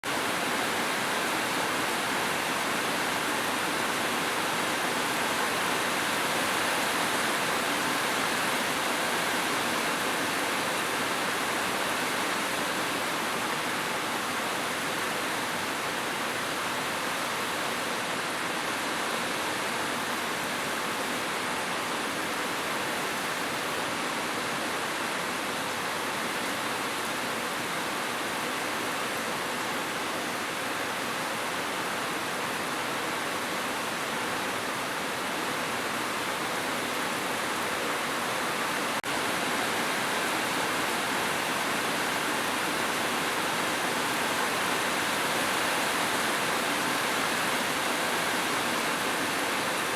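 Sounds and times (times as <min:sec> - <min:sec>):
heavy rain on a roof: 0:00.0 - 0:49.9.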